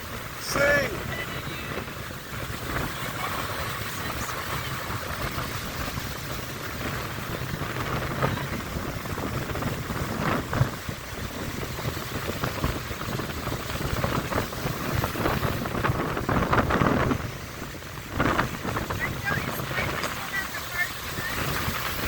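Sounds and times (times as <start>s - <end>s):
surf breaking: 0.0s - 22.0s
wind buffeting microphone: 0.0s - 22.0s.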